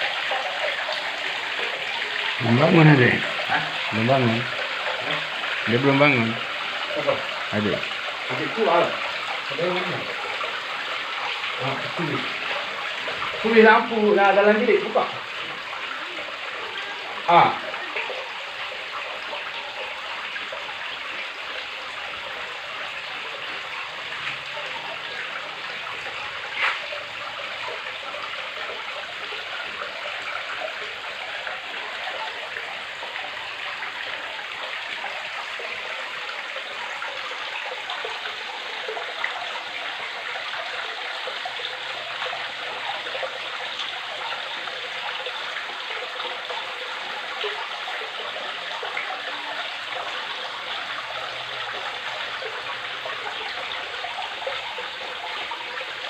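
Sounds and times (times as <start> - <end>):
waterfall splashing into a pond: 0.0 - 56.0.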